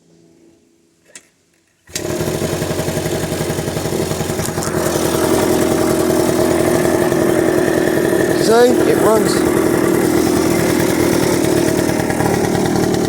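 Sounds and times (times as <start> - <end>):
small two-stroke engine running: 1.9 - 13.0.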